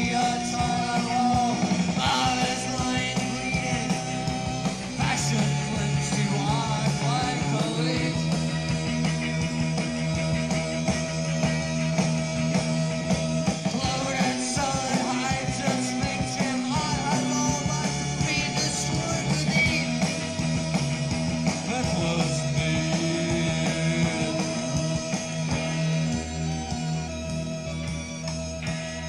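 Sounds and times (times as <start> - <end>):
psychedelic rock band music: 0.0 - 29.0.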